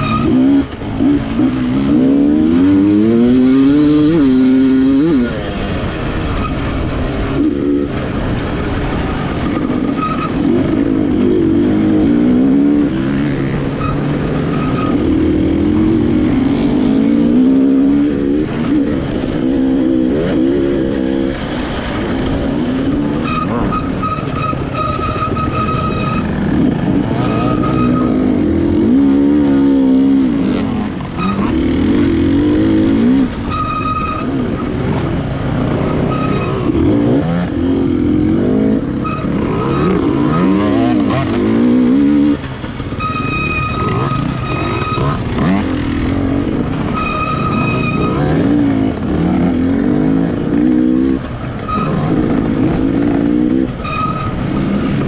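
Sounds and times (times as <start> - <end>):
dirt bike engine revving: 0.0 - 55.0
other dirt bikes running: 0.0 - 55.0.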